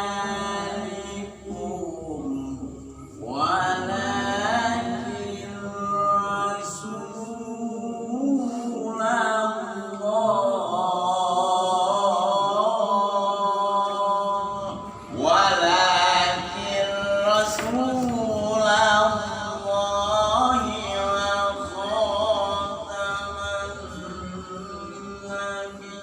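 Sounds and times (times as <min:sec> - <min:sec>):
person reciting melodically: 0:00.0 - 0:26.0.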